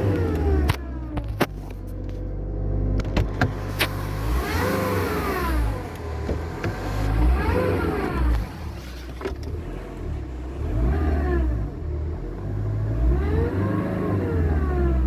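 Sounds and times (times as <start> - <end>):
diesel engine revving: 0.0 - 1.4, 2.4 - 15.0.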